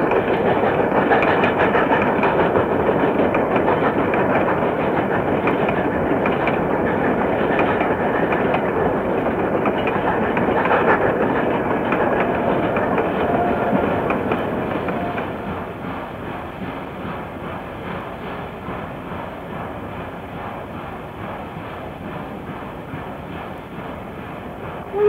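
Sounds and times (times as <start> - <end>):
train wheels clickety-clack: 0.0 - 25.0.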